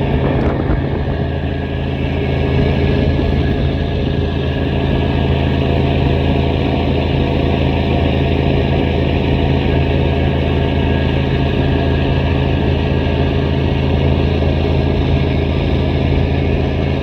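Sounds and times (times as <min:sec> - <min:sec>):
diesel engine running loudly: 0:00.0 - 0:17.0.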